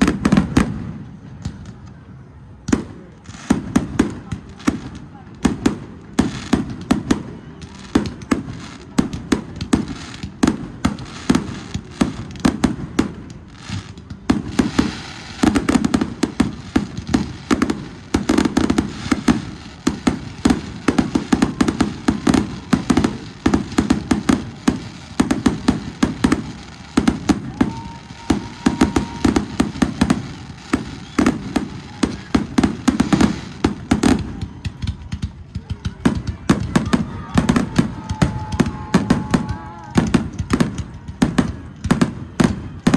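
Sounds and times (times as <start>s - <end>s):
fireworks bursts and crackling: 0.0s - 42.9s.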